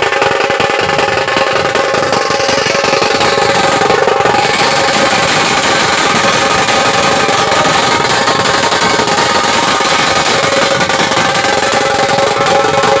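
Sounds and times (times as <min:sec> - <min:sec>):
drum ensemble drumming: 0:00.0 - 0:13.0.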